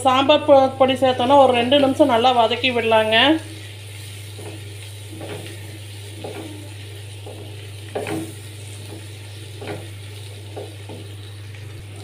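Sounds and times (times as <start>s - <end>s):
steady low hum: 0.0s - 12.0s
food sizzling in oil: 0.2s - 12.0s.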